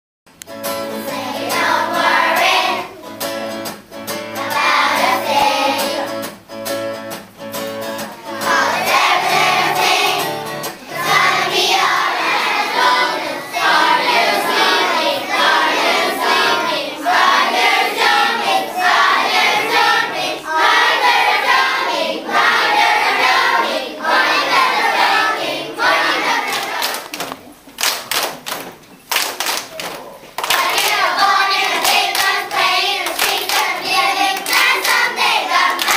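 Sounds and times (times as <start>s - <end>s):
children's choir singing: 0.8s - 3.3s, 4.2s - 6.4s, 8.0s - 27.4s, 30.4s - 35.9s.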